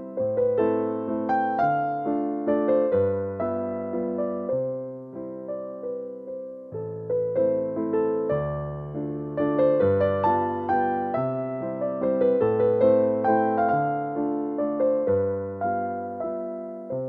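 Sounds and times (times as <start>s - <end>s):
gentle piano-like melody: 0.0s - 17.0s.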